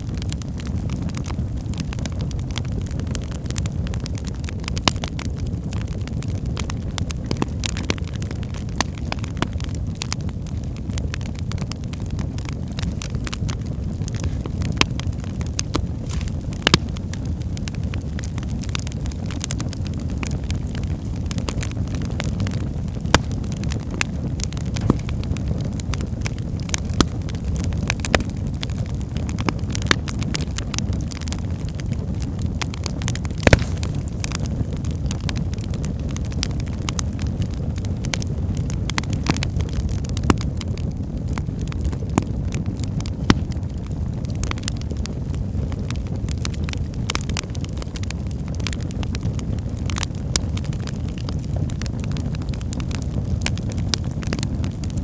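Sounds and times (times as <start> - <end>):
flames rumbling: 0.0 - 55.0
logs crackling and popping: 0.0 - 55.0.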